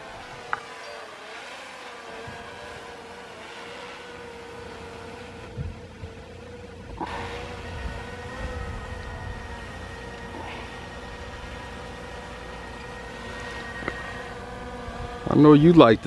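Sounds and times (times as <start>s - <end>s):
drone propeller whine: 0.0s - 16.0s.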